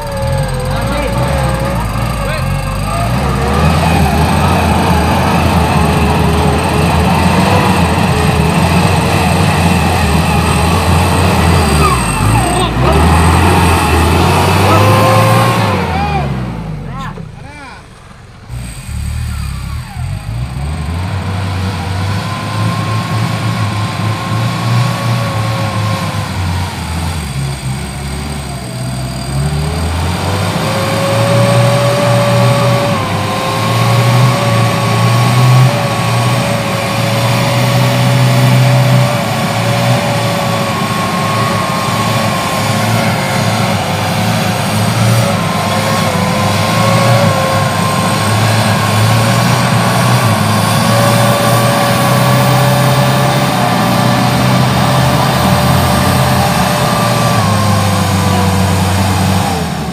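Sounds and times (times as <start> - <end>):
low engine drone: 0.0 - 59.9
vehicle whine: 0.0 - 59.9.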